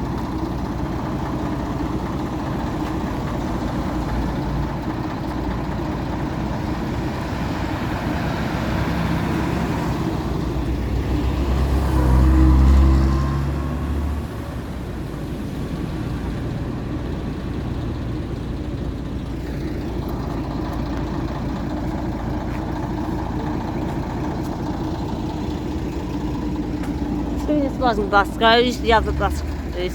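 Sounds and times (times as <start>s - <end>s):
bus pulling away: 0.0s - 29.9s
buses idling: 0.0s - 29.9s.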